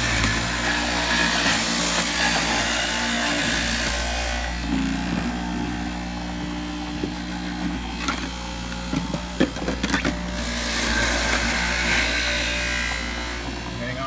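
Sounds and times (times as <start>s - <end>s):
juicer motor humming: 0.0s - 14.0s.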